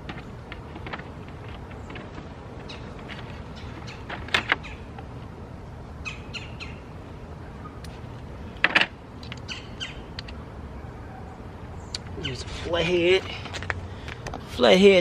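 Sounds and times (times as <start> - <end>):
birds chirping faintly: 0.0 - 14.9.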